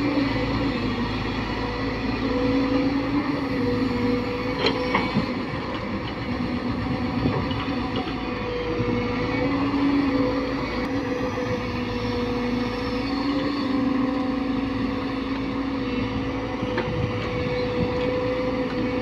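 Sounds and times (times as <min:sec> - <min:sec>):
excavator engine droning: 0:00.0 - 0:19.0.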